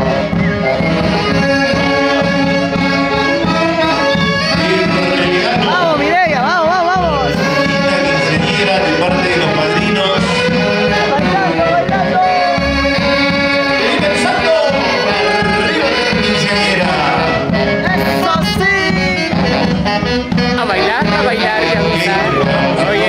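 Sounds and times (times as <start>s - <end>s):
person singing with band: 0.0s - 19.6s, 20.5s - 23.0s.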